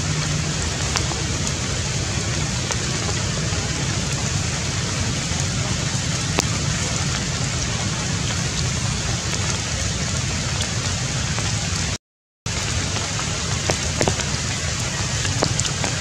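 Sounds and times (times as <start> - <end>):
rain on leaves: 0.0 - 16.0.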